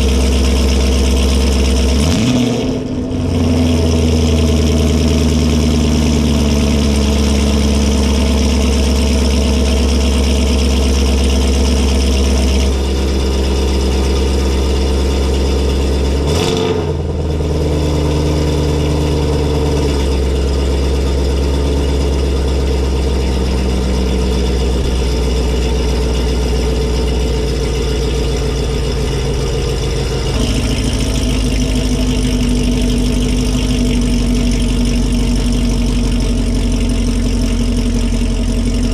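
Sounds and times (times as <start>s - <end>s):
car engine idling loudly: 0.0s - 38.9s.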